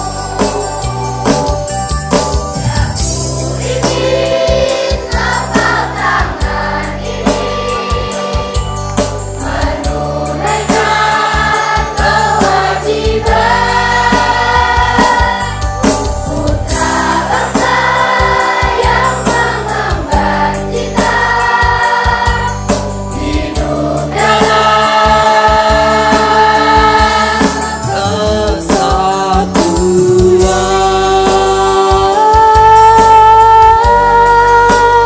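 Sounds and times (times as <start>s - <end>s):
chorus singing: 0.0s - 35.0s
instrumental backing music: 0.0s - 35.0s.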